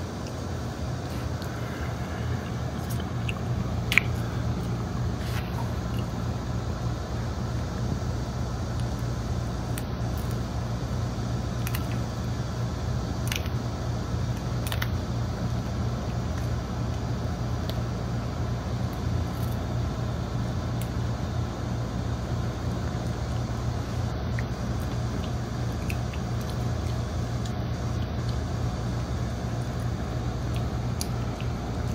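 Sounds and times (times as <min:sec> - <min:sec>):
popcorn machine motor hum: 0:00.0 - 0:31.9.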